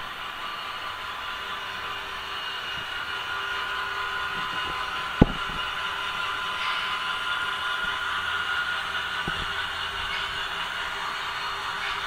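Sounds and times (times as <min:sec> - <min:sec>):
model train whirring: 0:00.0 - 0:12.0.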